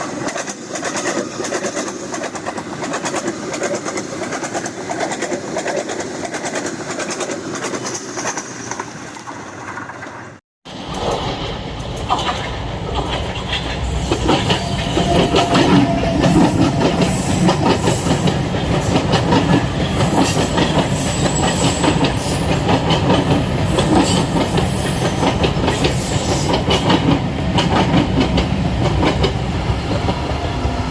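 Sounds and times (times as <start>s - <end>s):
train wheels clattering over rails: 0.0s - 30.8s.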